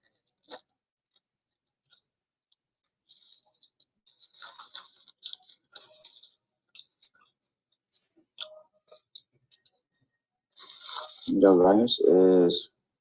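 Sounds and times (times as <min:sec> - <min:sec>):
chewing with soft crunches: 0:00.0 - 0:11.3.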